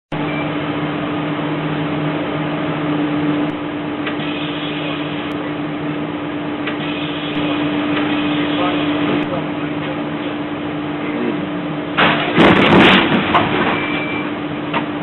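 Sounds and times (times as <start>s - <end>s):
bus interior drone and hiss: 0.1s - 15.0s
constant low hum: 0.1s - 15.0s.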